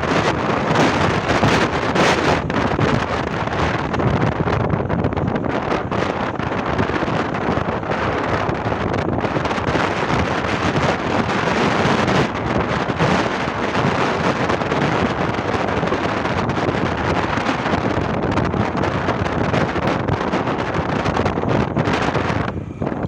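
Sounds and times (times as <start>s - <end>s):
vehicle noise: 0.0s - 23.0s
wind buffeting microphone: 0.0s - 23.0s.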